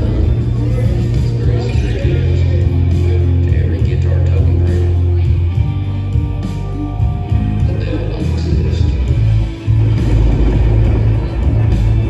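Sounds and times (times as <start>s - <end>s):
electric guitars: 0.0s - 12.0s
heavy sustained bass notes: 0.0s - 12.0s.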